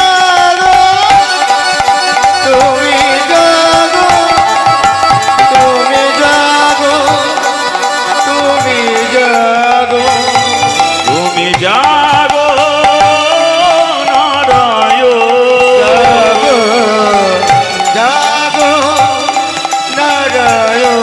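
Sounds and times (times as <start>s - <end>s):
held melody bending in pitch: 0.0s - 21.0s.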